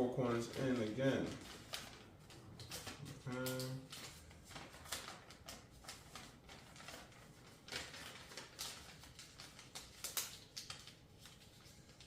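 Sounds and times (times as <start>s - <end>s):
paper rustling and crinkling: 0.2s - 12.0s.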